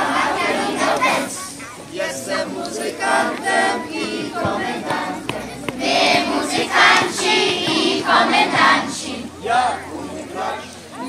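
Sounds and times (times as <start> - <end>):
children singing in chorus: 0.0 - 11.0.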